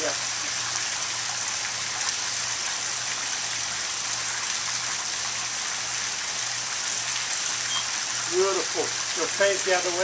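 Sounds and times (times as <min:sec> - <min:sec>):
fountain water splashing into pool: 0:00.0 - 0:10.0.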